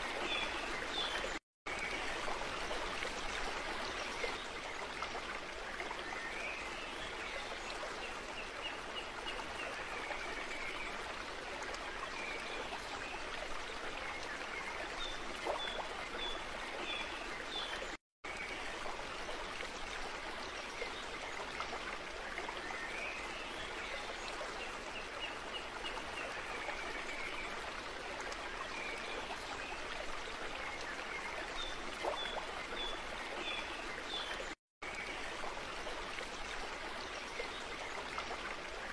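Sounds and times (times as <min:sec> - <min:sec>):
running stream: 0:00.0 - 0:38.9.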